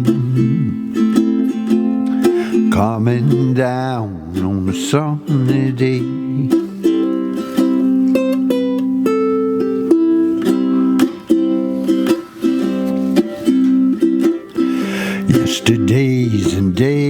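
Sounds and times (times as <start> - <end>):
ukulele strumming chords: 0.0 - 17.0.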